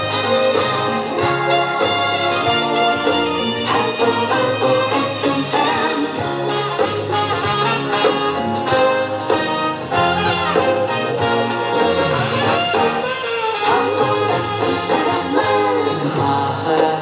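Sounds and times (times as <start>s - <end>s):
pop instrumental with brass: 0.0s - 17.0s.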